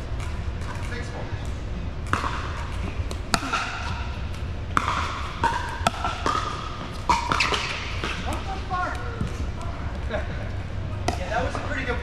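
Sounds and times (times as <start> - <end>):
steady low hum: 0.0 - 12.0
paddles hitting plastic ball: 0.1 - 12.0.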